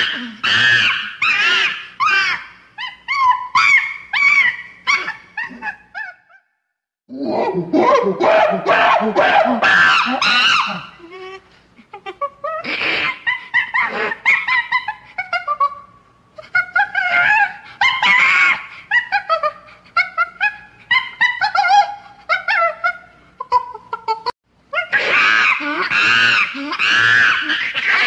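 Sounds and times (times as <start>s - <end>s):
monkey screaming: 0.0s - 6.5s, 7.3s - 11.1s, 12.4s - 15.8s, 16.4s - 23.8s, 24.7s - 28.0s.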